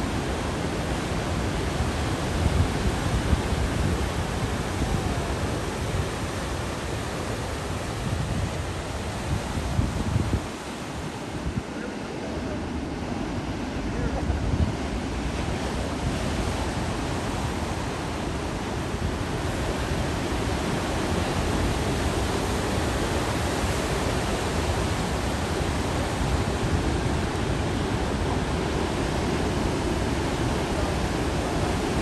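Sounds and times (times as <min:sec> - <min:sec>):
ocean surf breaking: 0:00.0 - 0:32.0.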